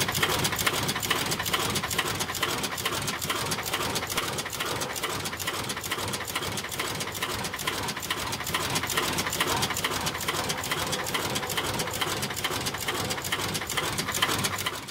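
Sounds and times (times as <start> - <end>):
machine rapid clicking clatter: 0.0 - 14.9.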